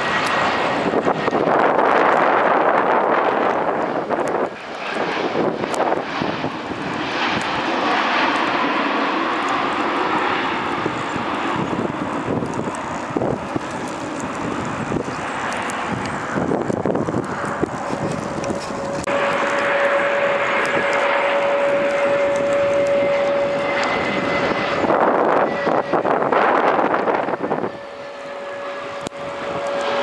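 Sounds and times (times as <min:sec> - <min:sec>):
faint engine whine: 0:00.0 - 0:30.0
jet engines roaring: 0:00.0 - 0:30.0.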